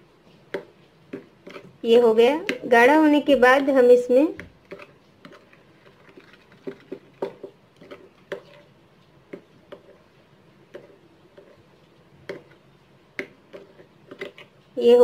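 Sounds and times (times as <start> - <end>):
spoon stirring thick mixture: 0.0 - 15.0.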